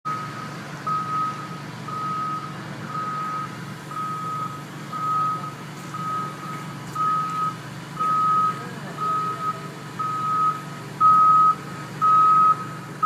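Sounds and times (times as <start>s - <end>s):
reversing alarm beeping: 0.1s - 12.9s
diesel engine running: 0.1s - 13.0s.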